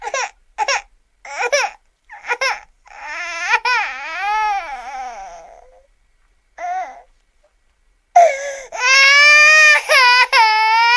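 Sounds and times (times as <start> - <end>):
baby-like voice crying: 0.0 - 5.9, 6.6 - 7.1, 8.2 - 10.9.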